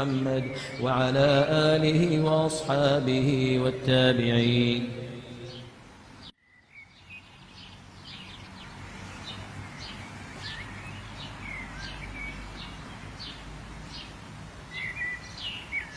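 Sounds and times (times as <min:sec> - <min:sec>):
small birds chirping: 0:00.0 - 0:02.6, 0:05.0 - 0:15.9.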